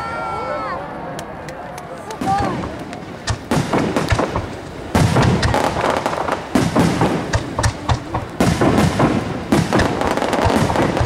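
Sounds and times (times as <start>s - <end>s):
fireworks bangs and crackles: 2.0s - 11.0s.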